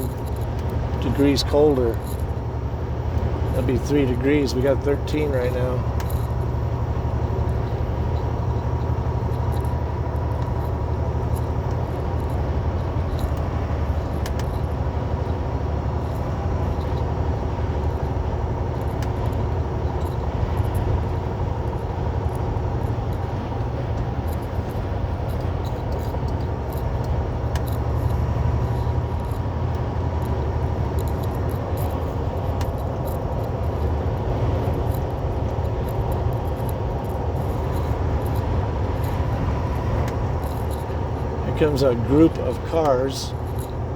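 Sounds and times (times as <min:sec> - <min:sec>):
road noise: 0:00.0 - 0:43.9
truck diesel engine drone: 0:00.0 - 0:43.9.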